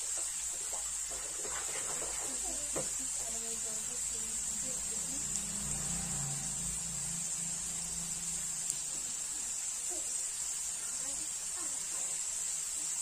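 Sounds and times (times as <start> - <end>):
oil crackle: 0.0 - 13.0
potato wedges sizzling in oil: 0.0 - 13.0.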